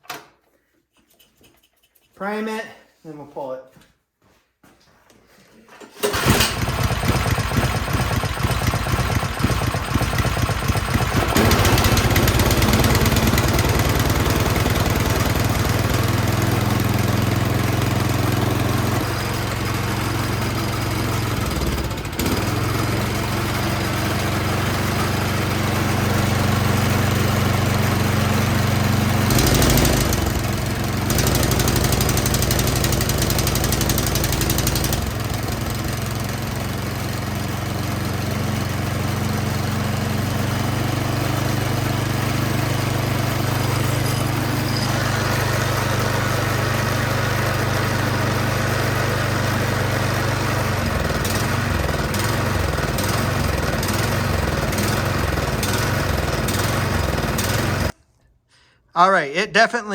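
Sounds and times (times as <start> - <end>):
snowblower engine starting and running: 5.8 - 58.0.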